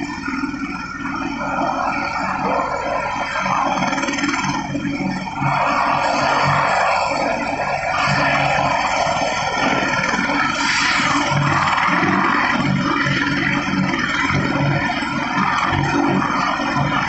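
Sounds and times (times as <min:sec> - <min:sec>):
helicopter turbine and rotor noise: 0:00.0 - 0:17.0.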